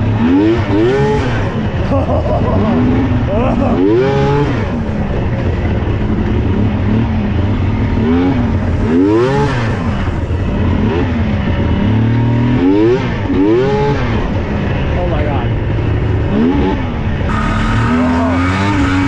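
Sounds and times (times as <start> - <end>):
snowmobile engine revving: 0.0 - 14.4, 16.2 - 19.0.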